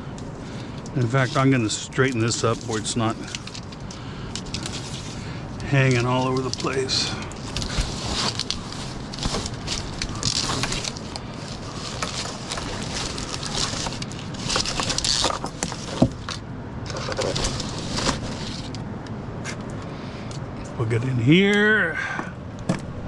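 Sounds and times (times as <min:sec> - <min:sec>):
cable rustling and clicking: 0:00.0 - 0:19.1.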